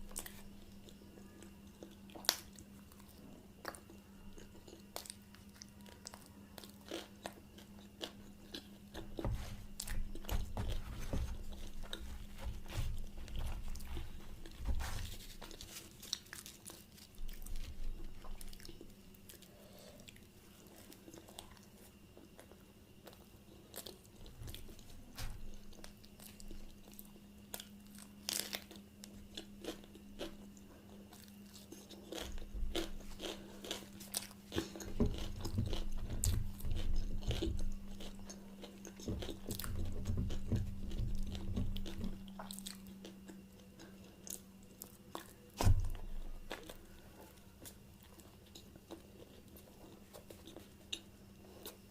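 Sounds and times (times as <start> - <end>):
person chewing food: 0.0 - 51.9.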